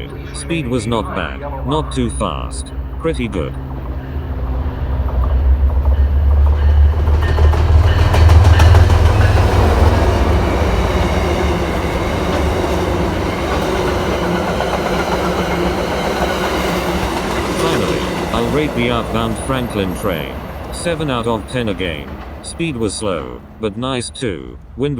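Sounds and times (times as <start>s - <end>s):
diesel locomotive rumble: 0.0s - 24.9s
train coaches rolling: 0.0s - 24.9s.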